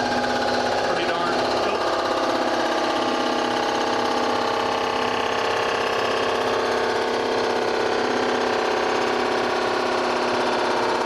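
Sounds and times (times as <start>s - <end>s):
surfacing machine whirring: 0.0s - 11.0s.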